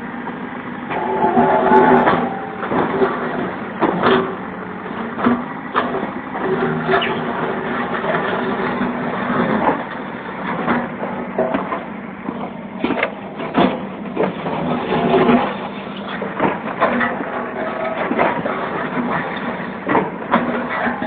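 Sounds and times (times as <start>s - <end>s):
diesel engine running: 0.0s - 21.0s
machine clanks and knocks: 0.9s - 21.0s.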